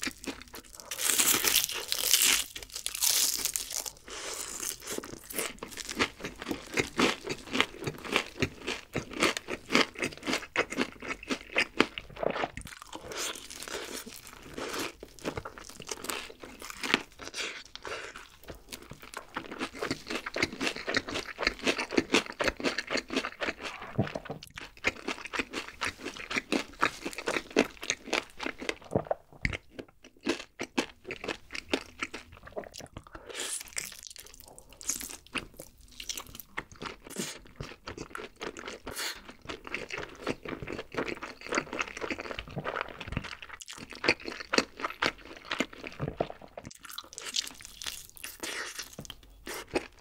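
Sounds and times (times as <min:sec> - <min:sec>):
crunching and chewing fried chicken: 0:00.0 - 0:50.0.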